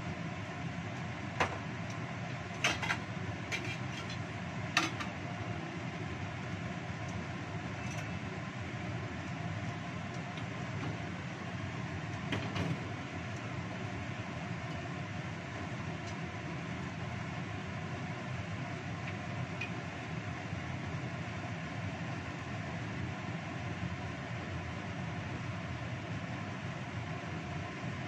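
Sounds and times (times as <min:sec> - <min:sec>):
extractor fan whirring: 0:00.0 - 0:24.4.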